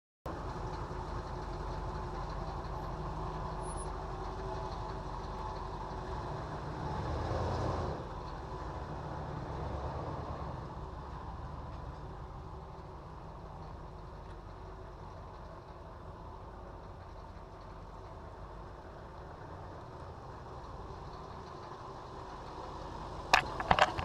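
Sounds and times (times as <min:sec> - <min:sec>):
passing vehicle: 0:00.3 - 0:24.0
vehicle engine humming: 0:00.3 - 0:24.0.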